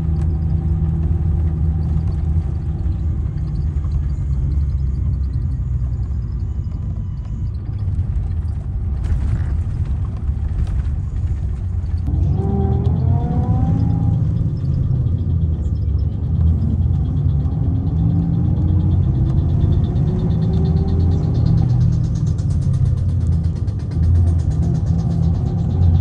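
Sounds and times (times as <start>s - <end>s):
diesel bus engine rumbling: 0.0s - 26.0s.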